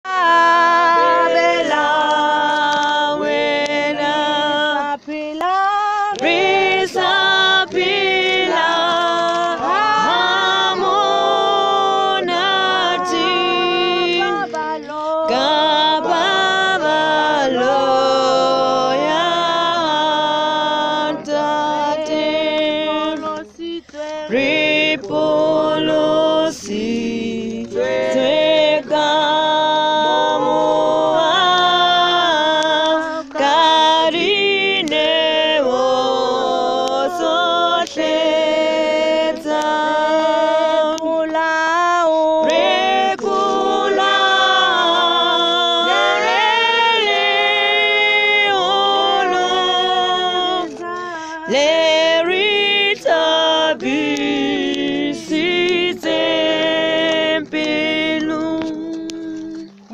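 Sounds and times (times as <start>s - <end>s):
group singing in harmony: 0.0s - 59.9s.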